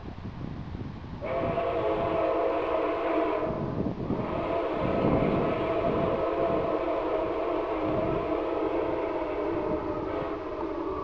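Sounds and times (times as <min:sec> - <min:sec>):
steam locomotive whistle blasts: 0:01.2 - 0:11.0.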